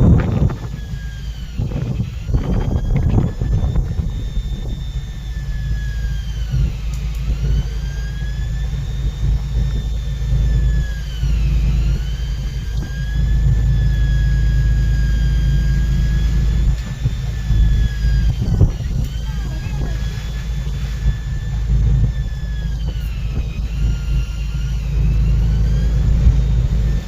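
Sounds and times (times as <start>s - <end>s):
boat engine rumbling: 0.0s - 27.0s
high motor whine: 0.0s - 27.0s.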